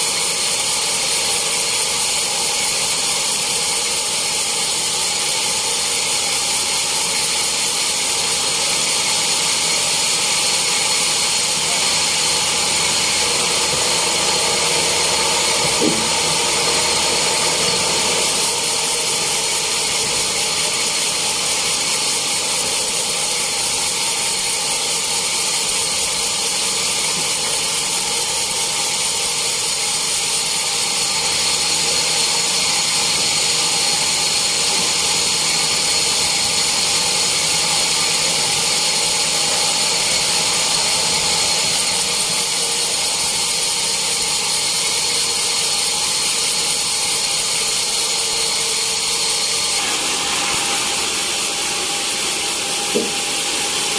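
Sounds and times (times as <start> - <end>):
sawmill saw running: 0.0 - 53.9.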